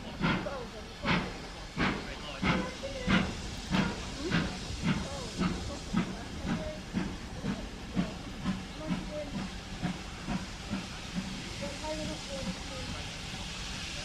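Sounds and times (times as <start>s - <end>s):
steam hissing: 0.0s - 14.0s
steam locomotive exhaust beats: 0.0s - 14.0s.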